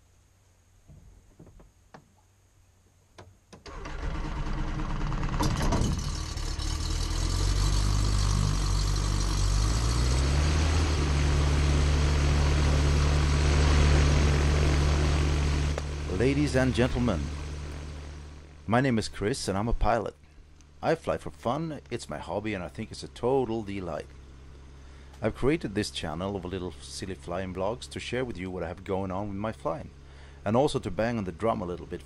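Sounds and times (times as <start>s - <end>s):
propeller engine idling: 3.7s - 32.0s.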